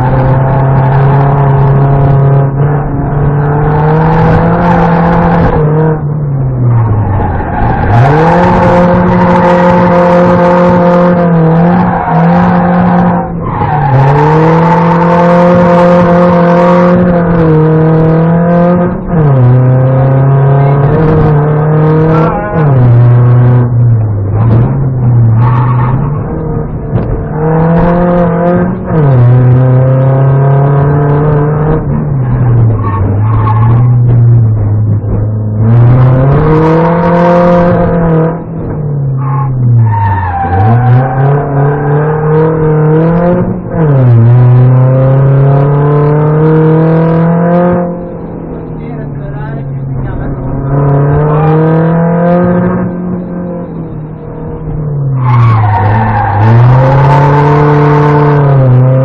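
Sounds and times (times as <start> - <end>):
car engine revving: 0.0 - 59.0
rushing tyre and road noise: 0.0 - 59.0.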